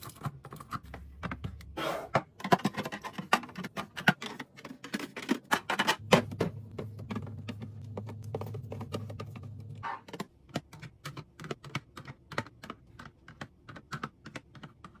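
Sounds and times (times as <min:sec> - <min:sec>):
packages clicking and clacking: 0:00.0 - 0:15.0.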